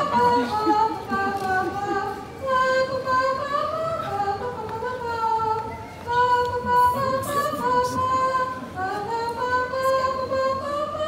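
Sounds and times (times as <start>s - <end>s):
girl singing into a microphone: 0.0s - 11.0s.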